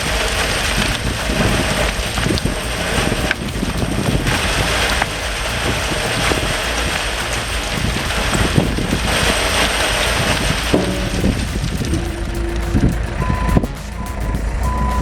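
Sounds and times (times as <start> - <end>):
heavy machinery clattering: 0.0 - 15.0.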